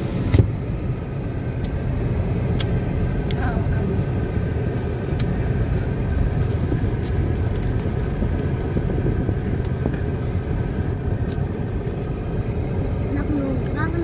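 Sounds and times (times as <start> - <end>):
tyres and engine rumbling: 0.0 - 14.0.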